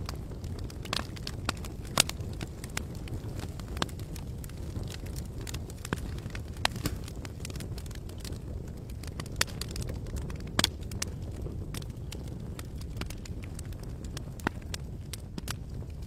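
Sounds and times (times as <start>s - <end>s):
campfire wood crackling and popping: 0.0s - 16.0s
low fire rumble: 0.0s - 16.0s.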